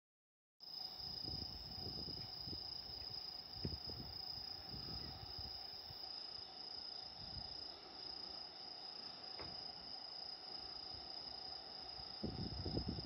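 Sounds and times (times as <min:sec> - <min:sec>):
crickets trilling: 0:00.6 - 0:13.0.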